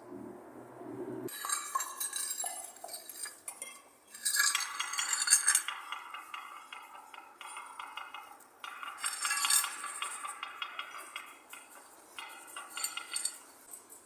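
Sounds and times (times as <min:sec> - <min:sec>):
small hard objects clinking: 0:01.3 - 0:13.9.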